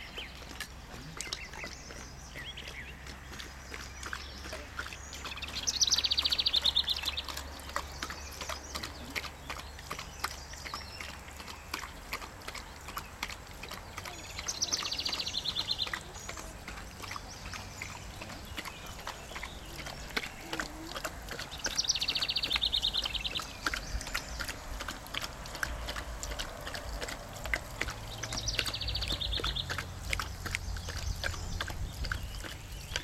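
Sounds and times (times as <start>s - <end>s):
dog lapping water: 0.0s - 33.0s.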